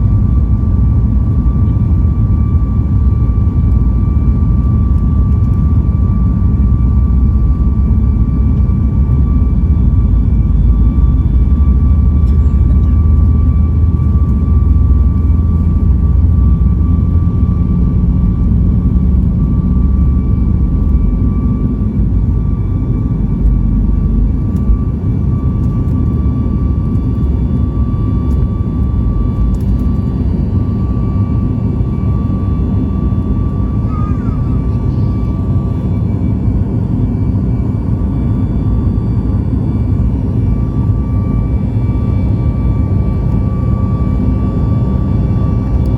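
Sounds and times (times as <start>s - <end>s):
jet engines rumbling: 0.0s - 45.9s
steady high whine: 0.0s - 45.9s.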